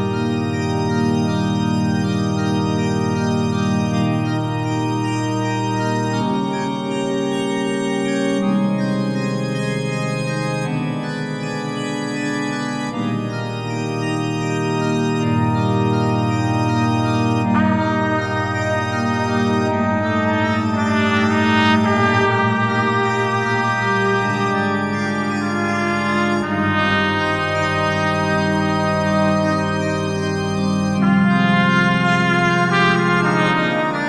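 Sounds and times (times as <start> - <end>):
organ-like held chords: 0.0 - 34.0.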